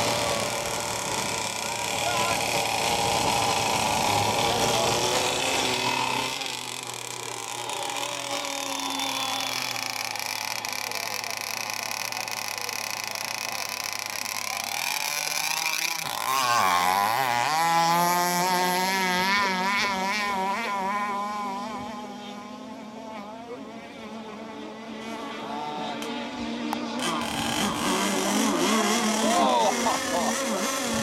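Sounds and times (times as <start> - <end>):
model powerboat engine revving: 0.0 - 31.0.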